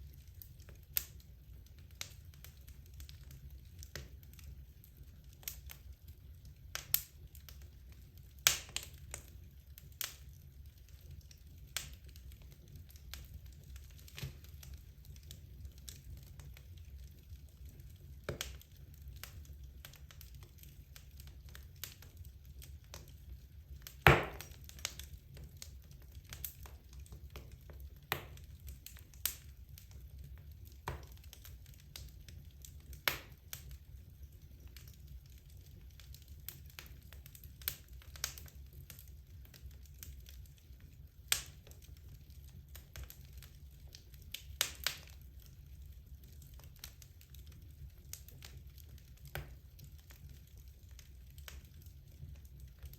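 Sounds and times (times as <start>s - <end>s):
fire crackles and pops: 0.0s - 52.9s
fire rumbling: 0.0s - 52.9s.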